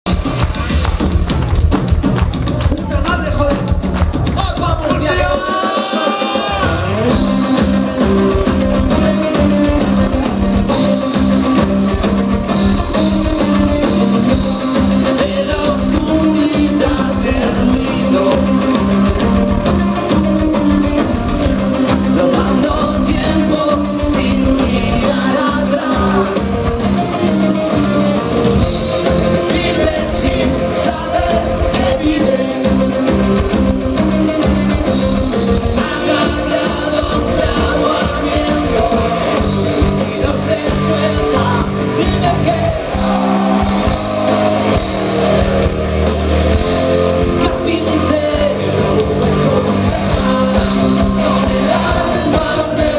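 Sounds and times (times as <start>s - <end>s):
bass guitar: 0.0s - 5.4s, 6.4s - 52.9s
drums with steady beat: 0.0s - 52.9s
electric guitars: 0.0s - 52.9s
person singing: 2.7s - 52.9s.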